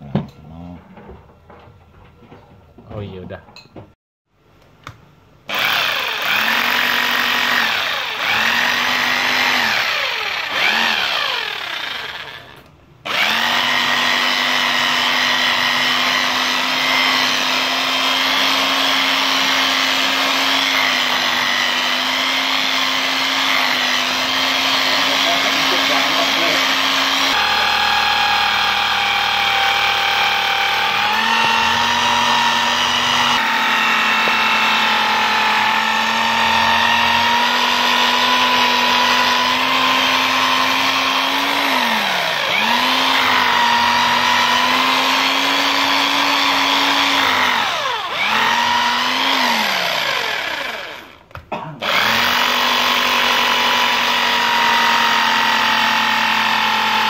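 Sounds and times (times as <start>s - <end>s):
electric drill boring into wall: 5.5s - 57.0s.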